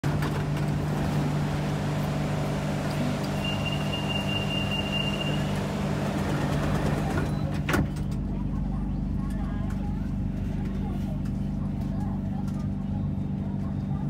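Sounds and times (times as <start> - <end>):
train low hum: 0.0 - 14.0.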